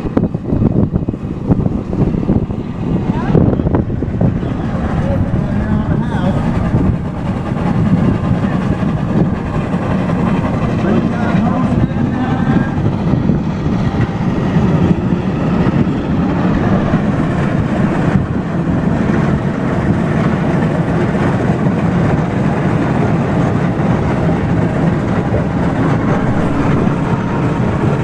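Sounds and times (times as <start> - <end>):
steam engine running: 0.0 - 28.0.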